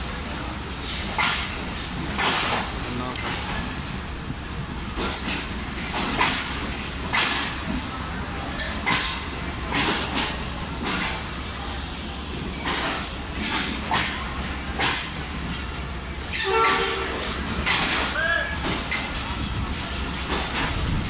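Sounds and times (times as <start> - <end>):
train coaches rumbling: 0.0 - 21.0
wheel clicks over rail joints: 0.8 - 3.9, 4.9 - 11.2, 12.6 - 21.0.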